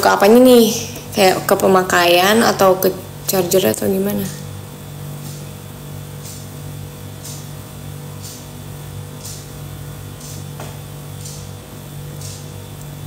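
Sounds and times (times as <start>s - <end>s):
soft hissing beat: 0.2s - 13.0s.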